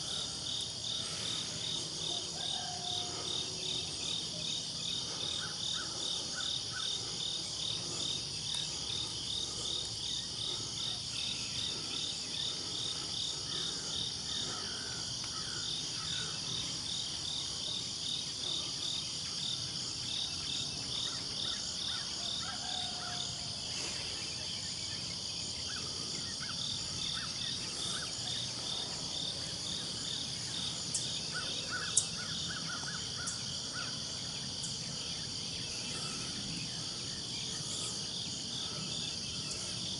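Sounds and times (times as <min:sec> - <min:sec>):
insects trilling and chirping: 0:00.0 - 0:39.9.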